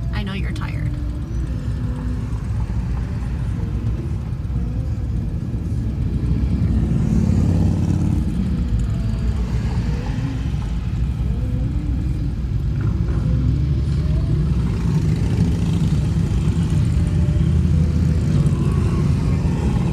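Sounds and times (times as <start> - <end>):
motorcycle engines: 0.0 - 19.9
rumble of slow traffic: 0.0 - 19.9.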